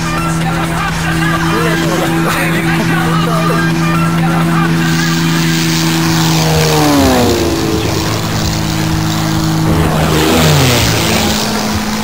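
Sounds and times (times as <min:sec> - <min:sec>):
propeller plane flying past: 0:00.0 - 0:12.0.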